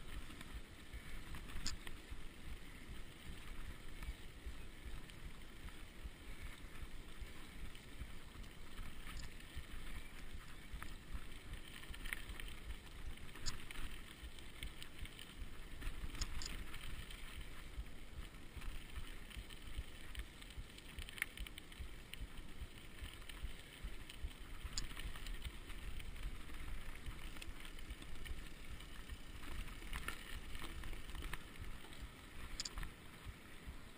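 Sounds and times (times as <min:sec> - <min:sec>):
bike tyres on gravel: 0:00.0 - 0:33.9.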